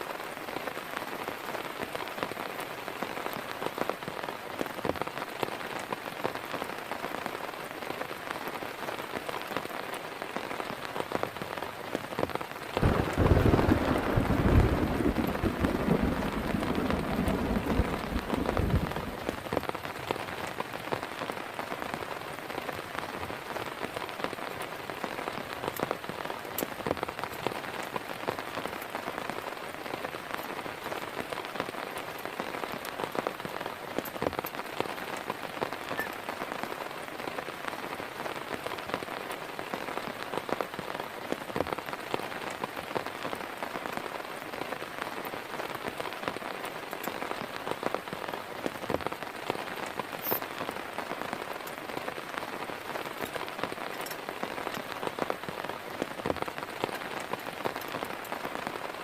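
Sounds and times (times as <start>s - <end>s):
rain falling steadily: 0.0s - 59.0s.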